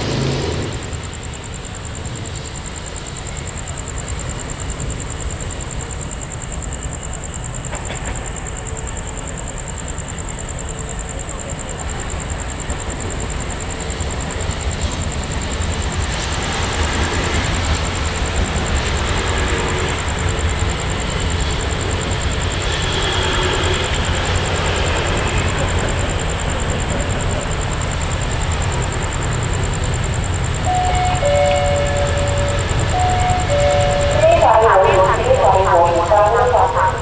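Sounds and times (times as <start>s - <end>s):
diesel locomotive rumble: 0.0s - 37.0s.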